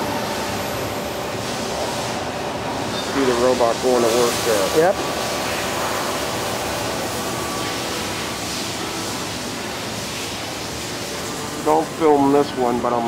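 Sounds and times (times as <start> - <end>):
welding machine hiss and hum: 0.0 - 13.0.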